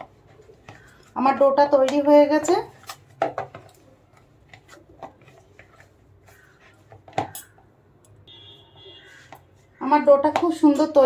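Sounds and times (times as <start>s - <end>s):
hands patting dough in bowl: 0.0s - 7.6s, 9.0s - 11.0s.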